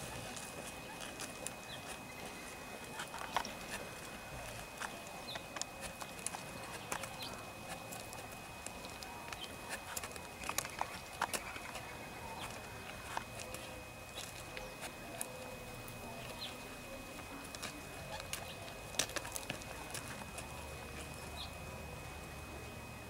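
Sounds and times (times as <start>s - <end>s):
hooves and stones clicking: 0.0s - 23.0s.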